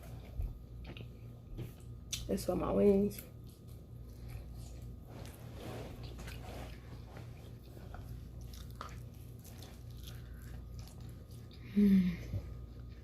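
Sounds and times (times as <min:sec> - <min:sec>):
person chewing pizza: 0:00.0 - 0:02.3, 0:03.1 - 0:13.0
steady low hum: 0:00.0 - 0:13.0.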